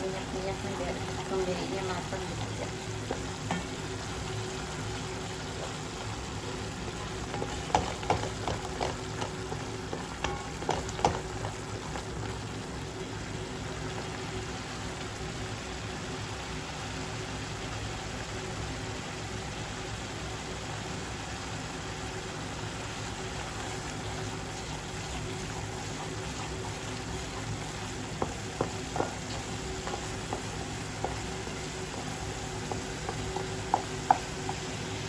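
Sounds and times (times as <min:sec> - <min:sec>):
spice paste frying in oil: 0:00.0 - 0:35.0.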